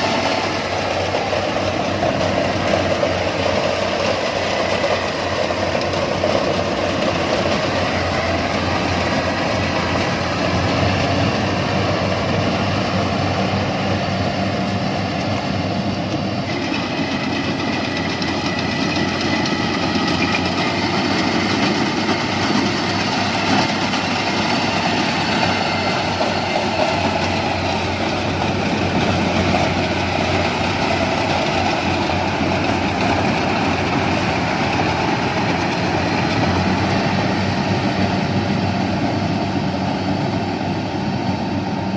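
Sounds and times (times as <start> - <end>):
combine harvester engine droning: 0.0 - 41.9.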